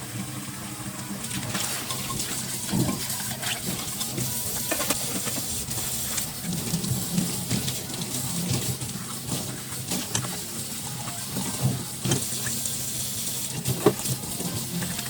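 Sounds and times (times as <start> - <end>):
water running from tap: 0.1 - 15.0.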